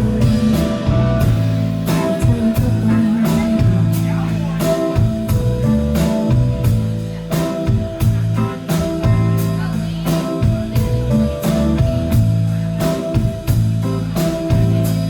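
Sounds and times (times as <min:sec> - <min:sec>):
bass and electric guitar: 0:00.0 - 0:15.0
steady drum beat: 0:00.0 - 0:15.0.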